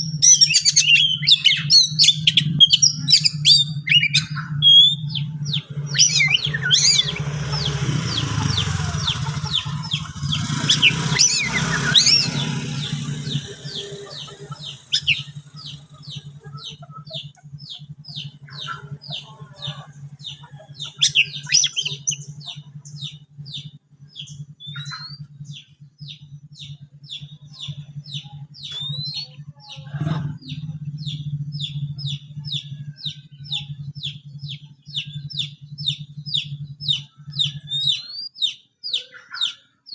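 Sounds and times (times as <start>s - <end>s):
bird calling: 0.0s - 39.9s
steady low hum: 0.0s - 39.9s.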